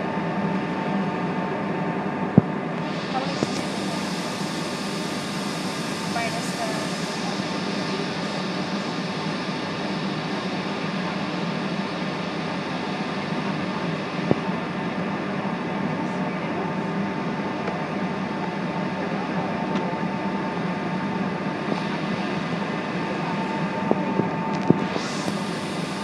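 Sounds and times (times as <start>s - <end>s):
aircraft cabin engine hum: 0.0s - 26.0s.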